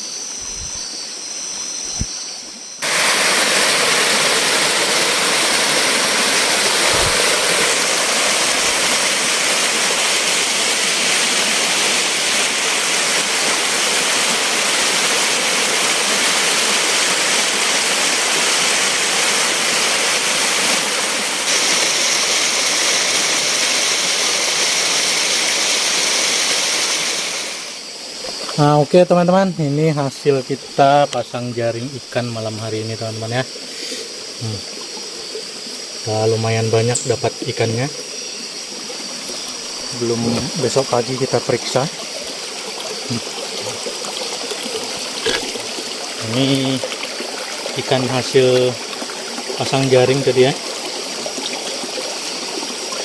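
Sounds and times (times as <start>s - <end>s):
insects chirring: 0.0s - 53.0s
water rushing: 0.4s - 53.0s.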